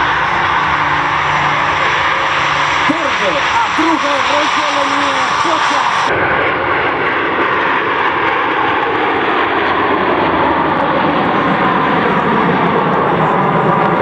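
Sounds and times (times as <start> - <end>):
airplane engine noise: 0.0 - 14.0.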